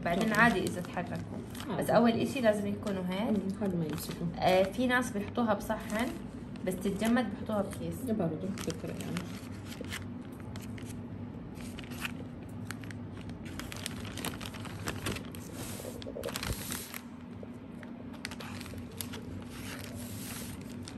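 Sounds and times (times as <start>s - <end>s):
plastic bag crinkling: 0.0s - 20.9s
steady low hum: 0.0s - 20.9s.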